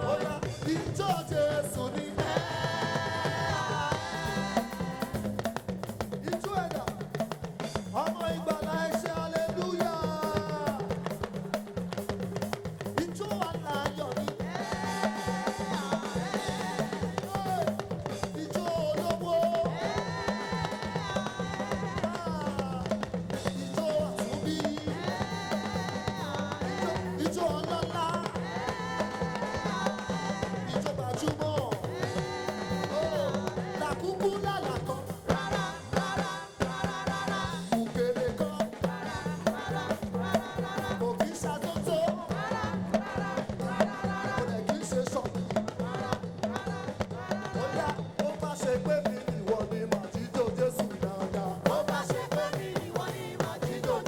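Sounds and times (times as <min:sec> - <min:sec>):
drums and percussion beat: 0:00.0 - 0:54.0
gospel band playing: 0:00.0 - 0:54.0
people singing: 0:00.0 - 0:54.0.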